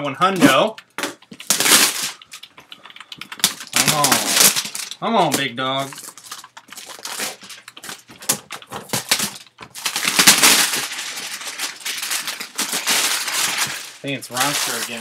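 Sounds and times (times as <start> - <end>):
plastic wrap crinkling: 0.5 - 15.0.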